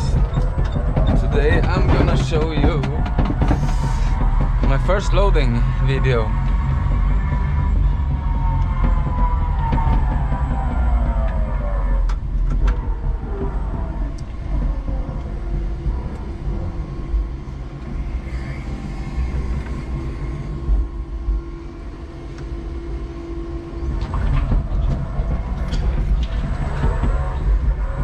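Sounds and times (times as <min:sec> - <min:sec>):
forklift drive rumble: 0:00.0 - 0:28.0
steady hum: 0:00.0 - 0:28.0.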